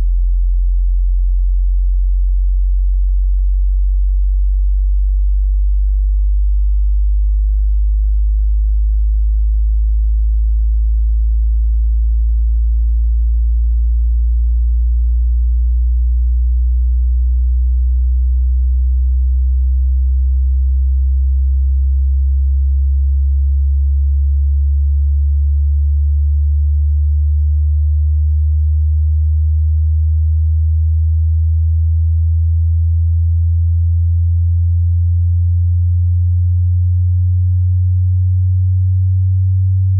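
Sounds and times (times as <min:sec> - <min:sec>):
rising sine tone: 0:00.0 - 0:39.9.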